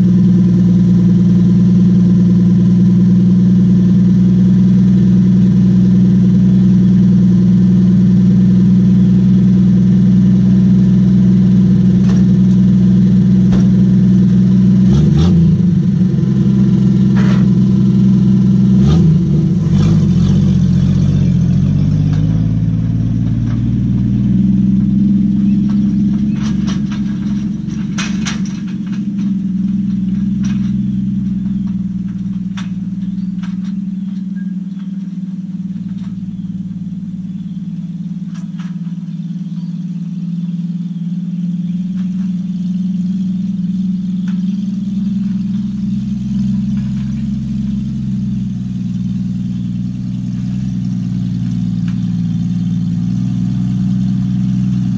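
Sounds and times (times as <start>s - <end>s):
truck engine idling and revving: 0.0s - 54.9s.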